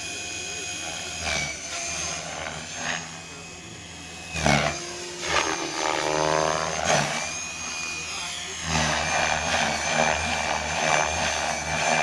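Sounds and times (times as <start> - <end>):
rc helicopter motor and rotor whine: 0.0 - 12.0.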